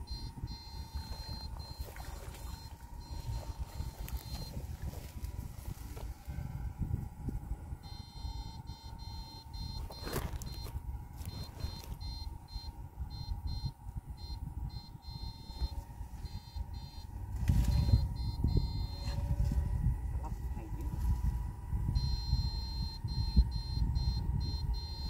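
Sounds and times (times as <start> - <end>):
high electronic whine pulses: 0.0 - 25.0
low rumbling noise: 0.0 - 25.0.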